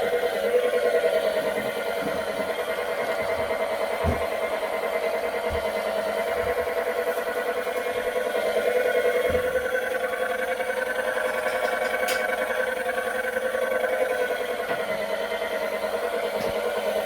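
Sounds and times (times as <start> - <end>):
mop cleaner motor humming: 0.0 - 17.0.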